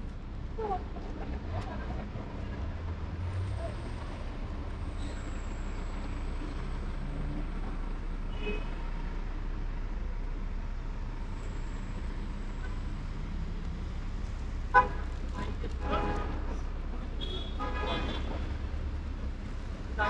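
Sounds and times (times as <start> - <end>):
street traffic engines rumbling: 0.0 - 20.0.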